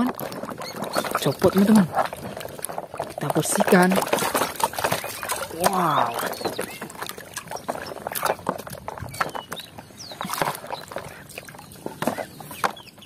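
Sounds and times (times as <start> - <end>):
muddy water splashing in a tub: 0.0 - 13.0.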